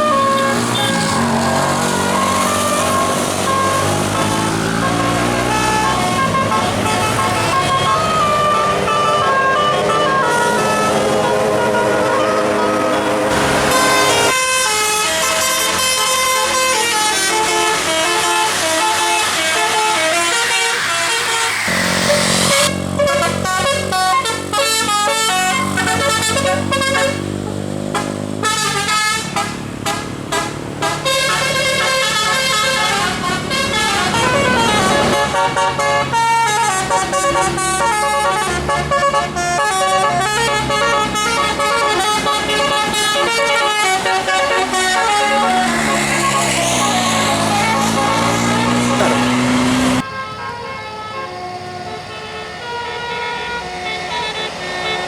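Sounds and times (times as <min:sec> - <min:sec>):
bus engine running: 0:00.0 - 0:55.0
musical bus air horns: 0:00.0 - 0:55.0.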